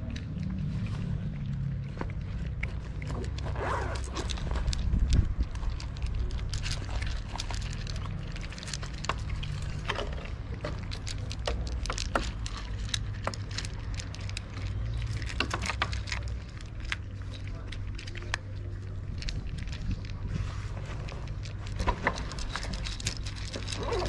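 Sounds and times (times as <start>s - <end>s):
steady low rumble: 0.0s - 23.9s
cats crunching dry kibble: 0.0s - 24.0s.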